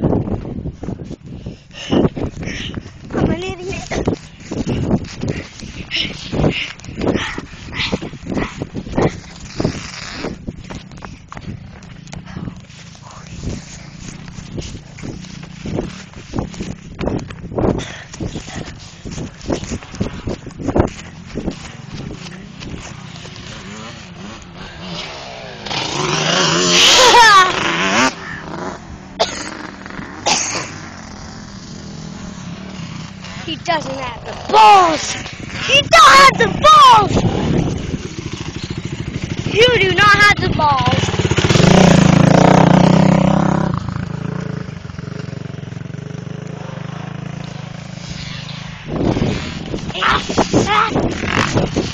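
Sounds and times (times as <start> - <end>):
atv engine revving: 3.0 - 51.9.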